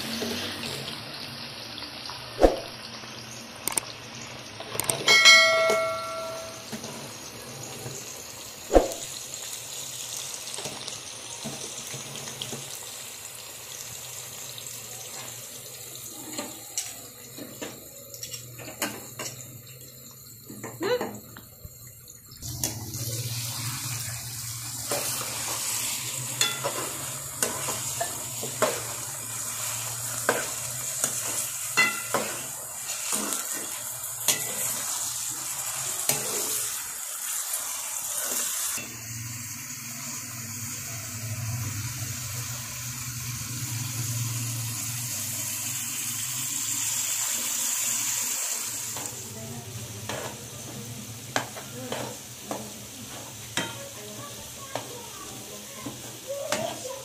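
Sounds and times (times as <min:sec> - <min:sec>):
liver sizzling in hot oil: 0:00.0 - 0:57.0
tomatoes sizzling in frying pan: 0:00.0 - 0:57.0.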